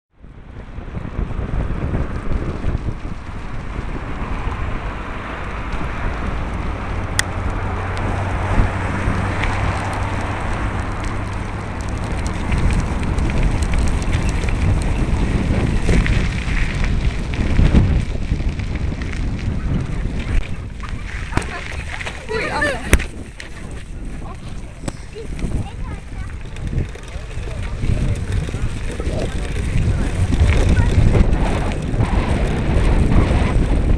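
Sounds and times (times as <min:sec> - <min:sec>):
wind buffeting microphone: 0:00.2 - 0:33.9
bike rattling over paving: 0:00.3 - 0:33.9.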